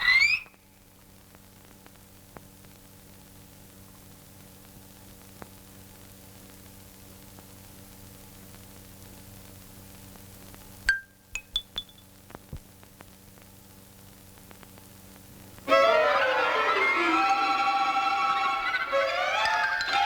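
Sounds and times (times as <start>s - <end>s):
film soundtrack hiss and hum: 0.0s - 20.0s.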